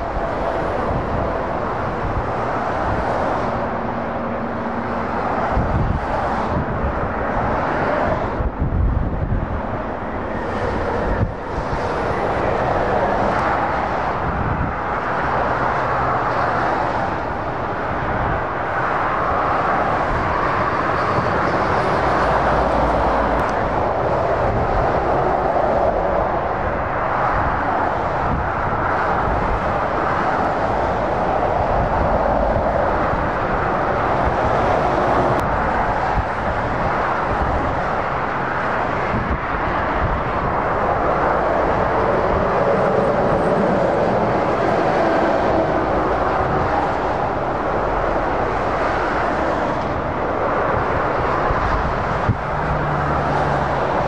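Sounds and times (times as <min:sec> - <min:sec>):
heavy motorway traffic roar: 0:00.0 - 0:54.0.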